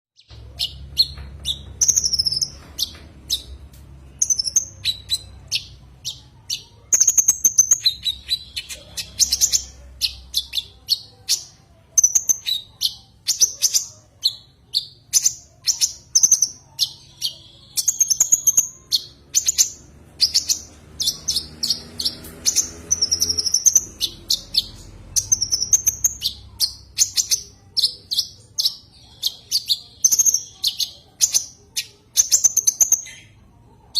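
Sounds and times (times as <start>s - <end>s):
bird high sharp chirps: 0.2s - 33.4s.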